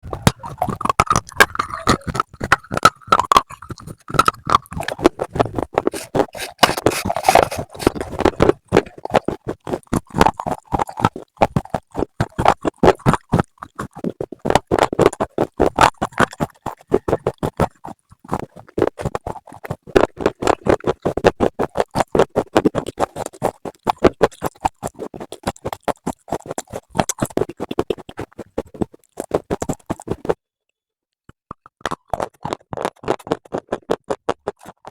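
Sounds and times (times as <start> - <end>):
slate pieces being chewed: 0.0 - 30.4, 31.3 - 34.9.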